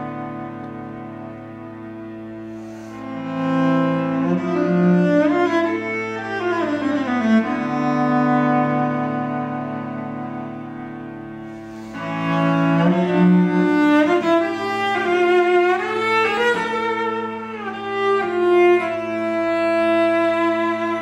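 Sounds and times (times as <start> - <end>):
solo cello melody: 0.0 - 21.0.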